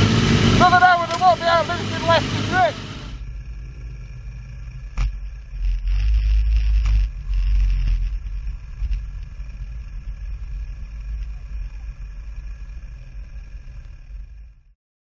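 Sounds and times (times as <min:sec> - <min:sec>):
motorcycle engine rumble: 0:00.0 - 0:14.8.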